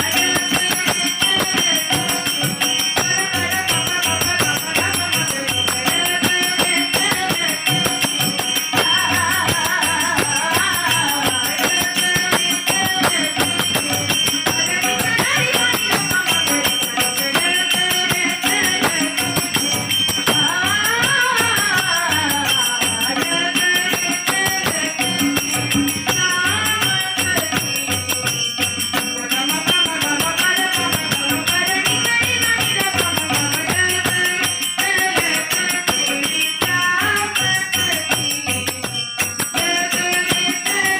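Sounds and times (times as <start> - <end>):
drum beat: 0.0 - 40.9
jingling hand percussion: 0.0 - 40.9.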